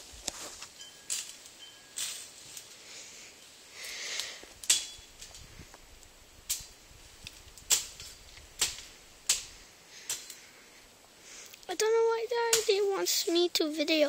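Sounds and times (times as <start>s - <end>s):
branches cracking: 0.0s - 11.8s
brush rustling: 0.0s - 14.0s.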